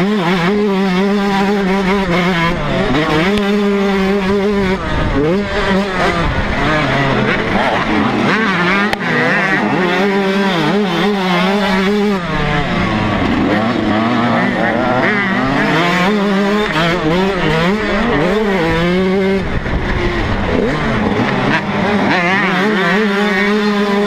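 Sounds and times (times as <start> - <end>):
motocross engine revving: 0.0 - 24.0.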